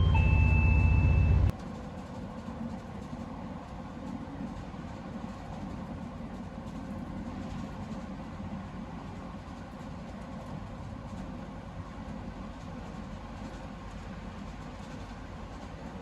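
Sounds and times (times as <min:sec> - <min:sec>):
train rumbling inside carriage: 0:00.0 - 0:16.0.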